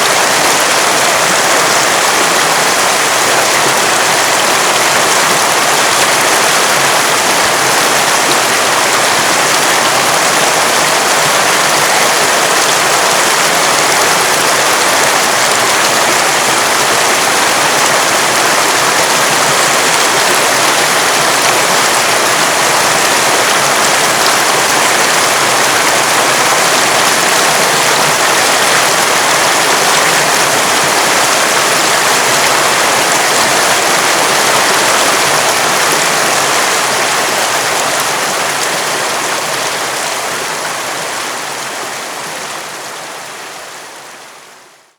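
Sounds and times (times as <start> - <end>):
river rushing: 0.0 - 44.8.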